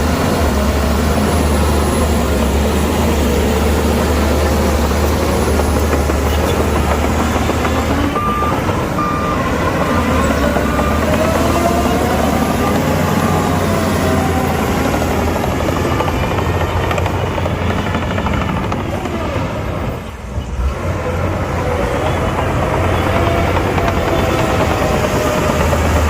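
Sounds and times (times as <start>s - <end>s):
diesel machinery engine rumble: 0.0s - 26.0s.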